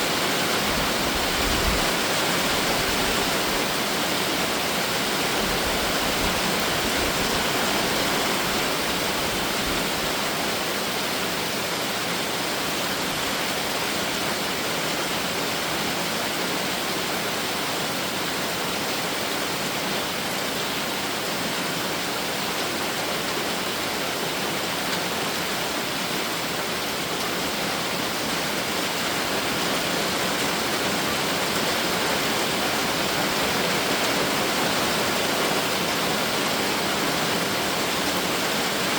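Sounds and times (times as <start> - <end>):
rain pouring down: 0.0 - 38.9.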